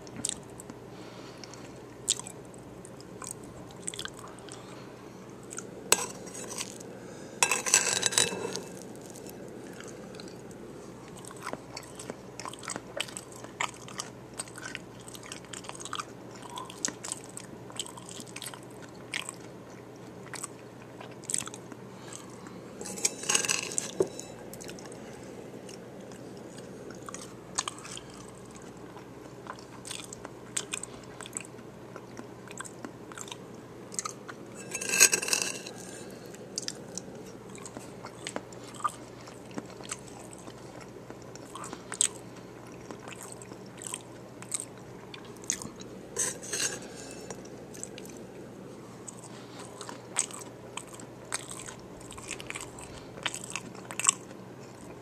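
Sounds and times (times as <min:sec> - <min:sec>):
person chewing crunchy food: 0:00.0 - 0:00.8, 0:01.4 - 0:04.8, 0:05.4 - 0:55.0.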